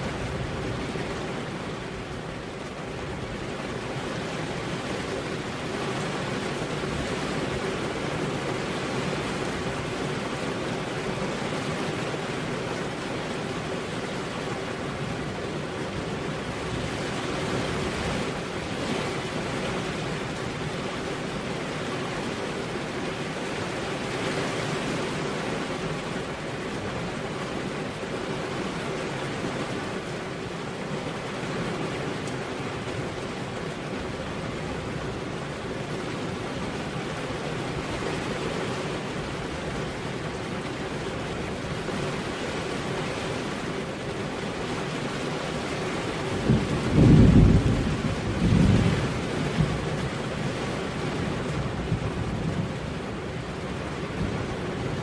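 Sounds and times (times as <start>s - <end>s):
heavy rain on road: 0.0s - 55.0s.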